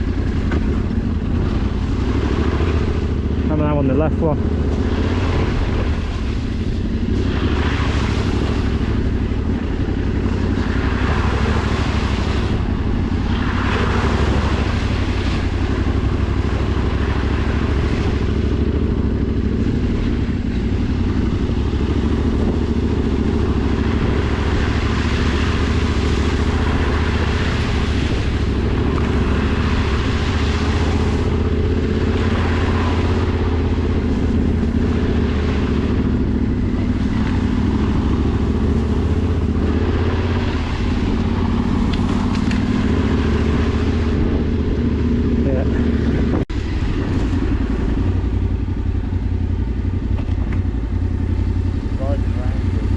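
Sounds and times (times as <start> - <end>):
motorcycle engine running: 0.0 - 52.9
road noise: 0.0 - 52.9
rushing wind: 0.0 - 52.9.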